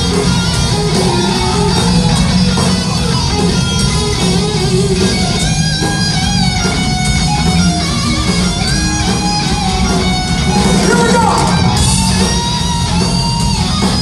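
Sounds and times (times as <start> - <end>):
electric guitar: 0.0 - 14.0
live rock band playing: 0.0 - 14.0.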